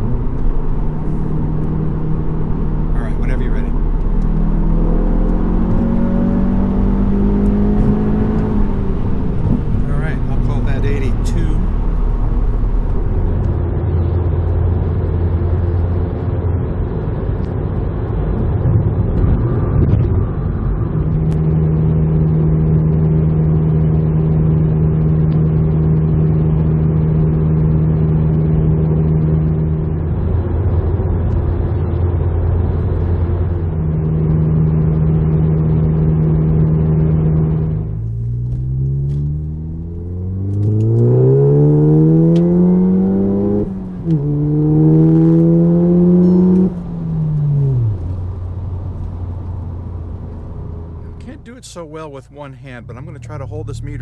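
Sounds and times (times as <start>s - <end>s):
car engine cruising: 0.0s - 54.0s.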